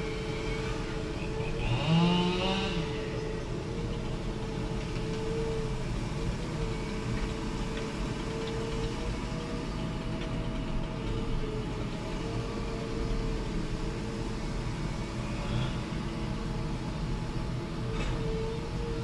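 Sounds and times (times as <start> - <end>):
diesel engine running: 0.0 - 18.8.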